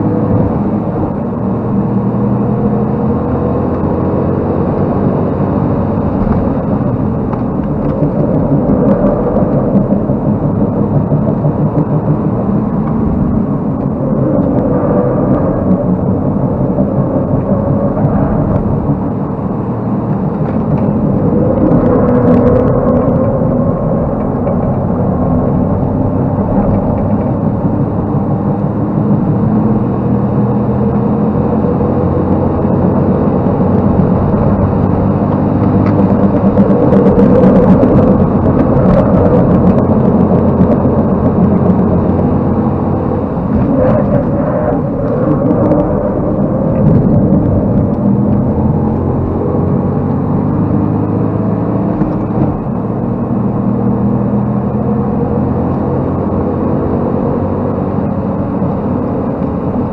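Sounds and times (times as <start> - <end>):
car engine driven hard: 0.0 - 59.9.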